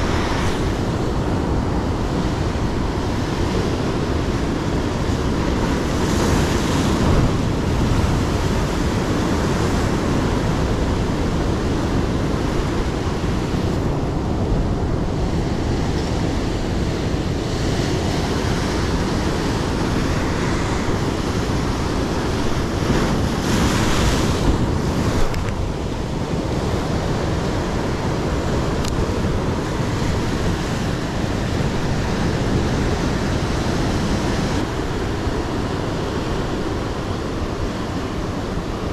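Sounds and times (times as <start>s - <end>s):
ocean surf breaking over rocks: 0.0s - 38.9s
wind buffeting microphone: 0.0s - 38.9s.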